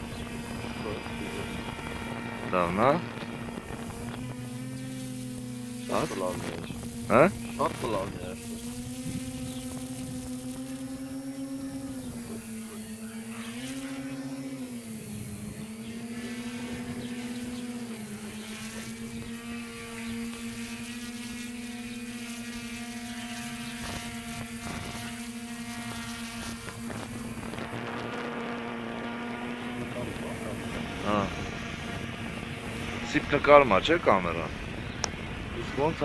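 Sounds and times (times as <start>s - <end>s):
drone buzzing whine: 0.0s - 36.0s.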